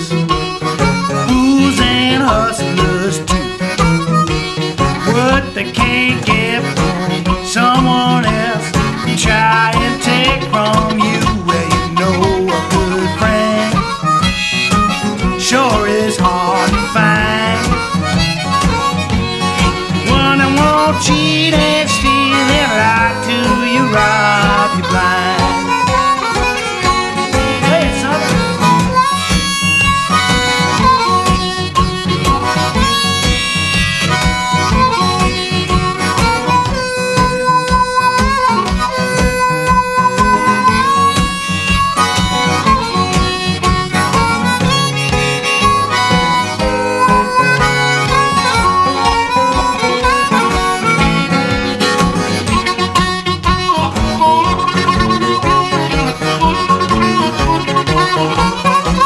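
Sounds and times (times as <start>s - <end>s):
blues guitar with steady beat: 0.0s - 59.0s
harmonica: 0.0s - 59.0s.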